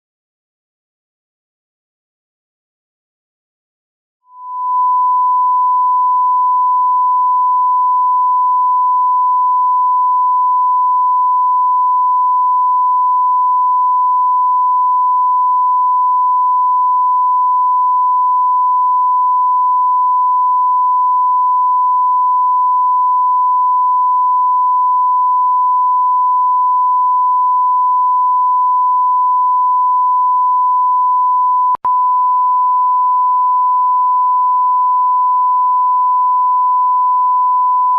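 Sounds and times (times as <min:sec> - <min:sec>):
sine-wave test tone: 0:04.2 - 0:37.9.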